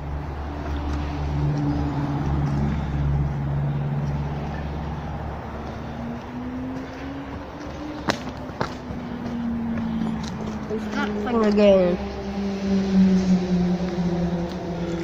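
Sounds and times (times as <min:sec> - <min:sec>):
vehicle engine hum passing: 0:00.0 - 0:15.0.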